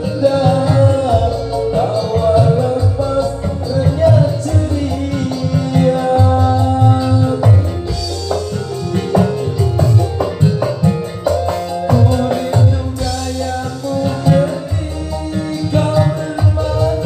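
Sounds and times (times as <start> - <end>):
live band through loudspeakers: 0.0 - 17.0.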